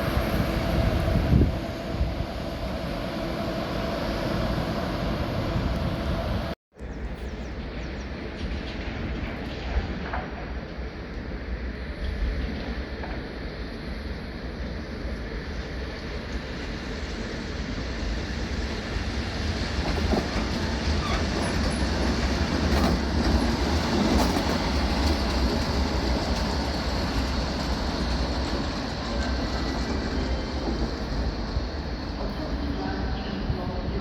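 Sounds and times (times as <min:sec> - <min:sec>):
train running on rails: 0:00.0 - 0:34.0.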